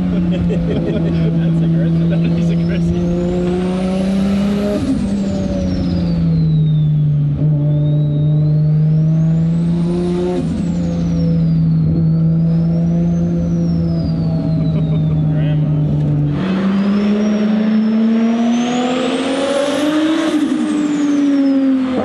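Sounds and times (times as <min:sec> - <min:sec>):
car engine running hard: 0:00.0 - 0:22.0.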